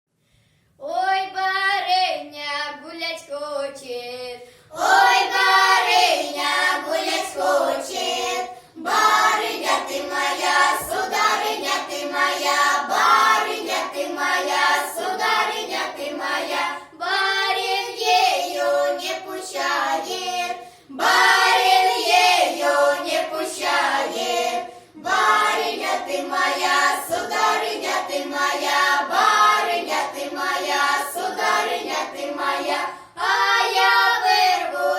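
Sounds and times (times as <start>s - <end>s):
children singing in chorus: 4.7s - 34.9s.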